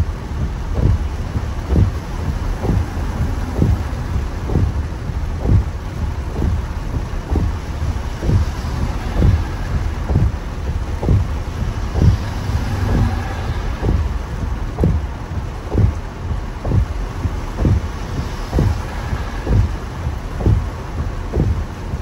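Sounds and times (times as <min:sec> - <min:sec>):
tyres and rain rumbling in car: 0:00.0 - 0:22.0
low thump: 0:00.8 - 0:01.1, 0:01.7 - 0:04.8, 0:05.4 - 0:15.1, 0:15.7 - 0:16.0, 0:16.6 - 0:21.7.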